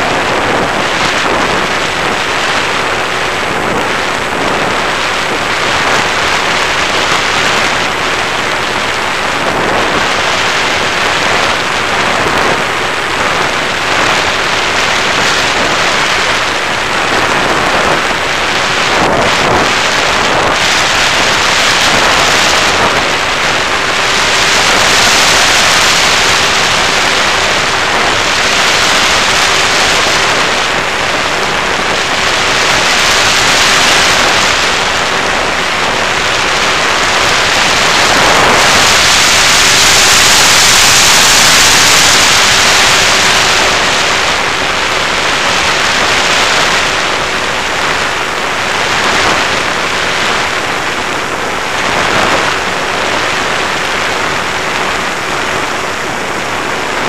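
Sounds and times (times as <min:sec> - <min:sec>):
electric motor and propeller hum: 0:00.0 - 0:57.0
wind rushing over microphone: 0:00.0 - 0:57.0.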